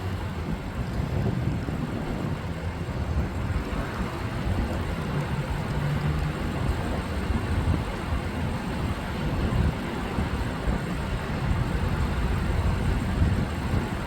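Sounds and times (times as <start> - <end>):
traffic rumble: 0.0 - 14.0
wind buffeting microphone: 0.0 - 14.0.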